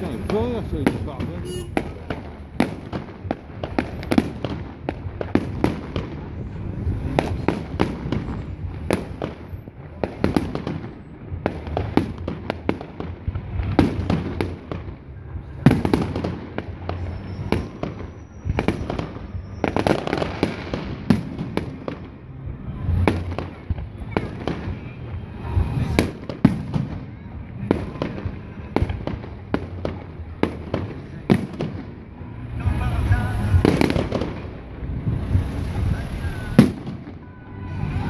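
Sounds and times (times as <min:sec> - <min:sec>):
fireworks bursting: 0:00.0 - 0:38.0
fireworks crackling: 0:00.0 - 0:38.0.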